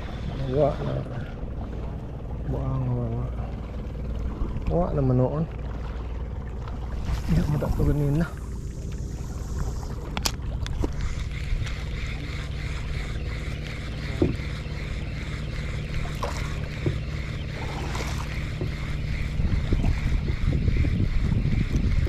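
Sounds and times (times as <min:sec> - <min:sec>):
boat engine low drone: 0:00.0 - 0:22.0.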